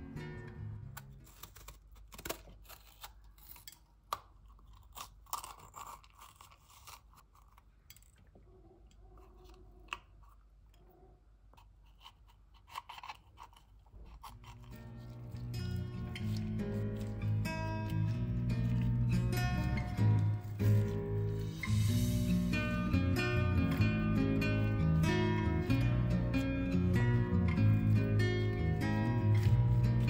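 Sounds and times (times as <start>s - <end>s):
knife crunching through peppers: 0.6s - 8.3s, 11.6s - 30.0s.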